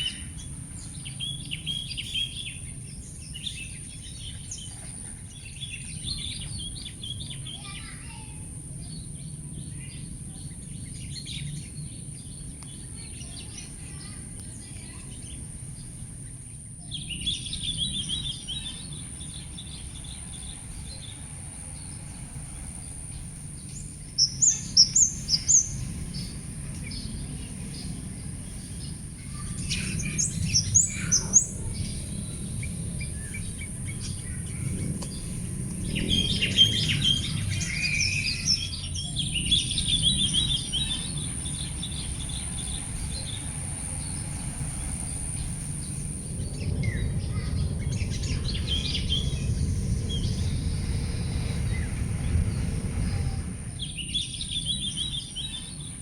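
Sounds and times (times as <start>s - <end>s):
birds chirping: 0.0s - 56.0s
low background rumble: 0.0s - 56.0s.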